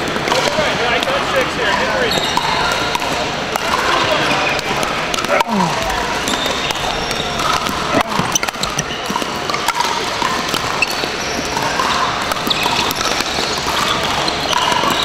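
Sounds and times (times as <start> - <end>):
paddles hitting plastic ball: 0.0 - 1.3, 2.1 - 15.0
din of games in large hall: 0.0 - 15.0.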